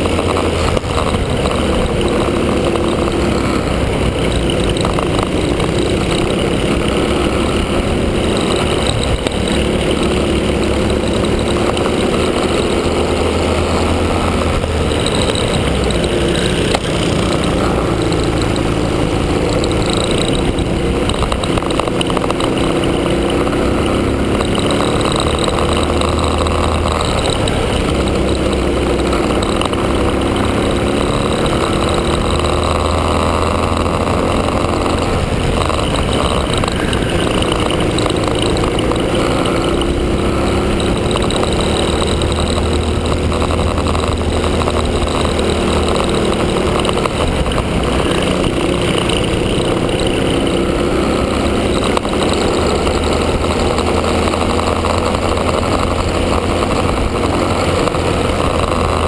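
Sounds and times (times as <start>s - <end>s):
kart engine revving: 0.0s - 59.0s
other kart engines: 0.0s - 59.0s.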